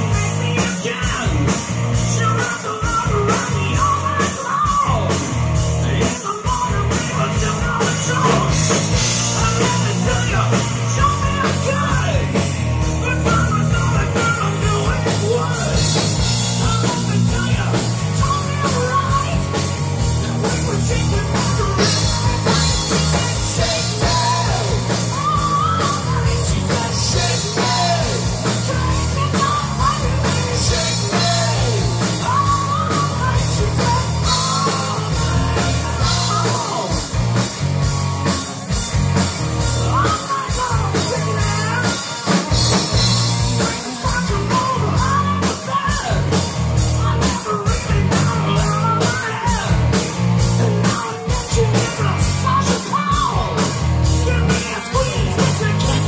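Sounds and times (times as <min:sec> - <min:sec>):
person singing: 0:00.0 - 0:37.2, 0:39.8 - 0:56.0
bass guitar: 0:00.0 - 0:56.0
drum kit: 0:00.0 - 0:56.0
electric guitars: 0:00.0 - 0:56.0.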